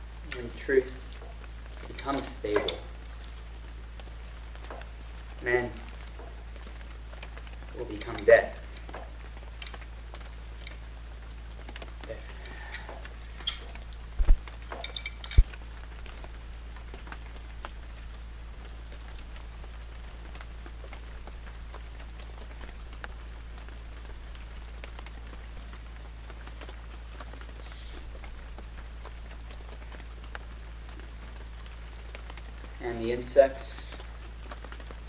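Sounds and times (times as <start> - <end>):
faint hiss with crackles: 0.0 - 35.0.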